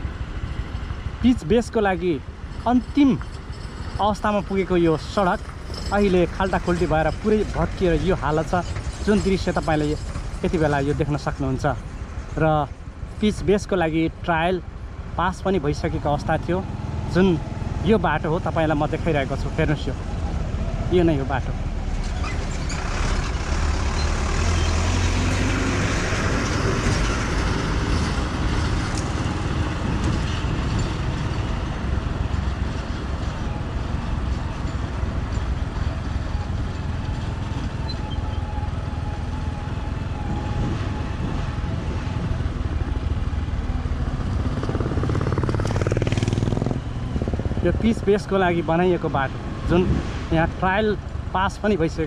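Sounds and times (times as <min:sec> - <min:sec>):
motor vehicle low rumble: 0:00.0 - 0:52.0.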